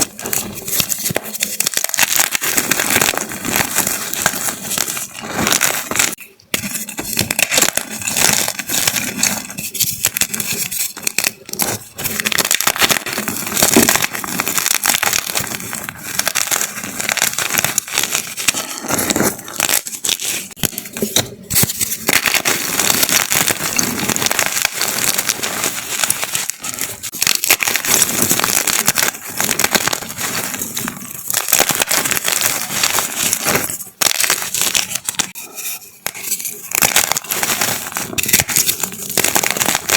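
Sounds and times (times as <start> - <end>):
chalk crushing and crackling: 0.0 - 39.9.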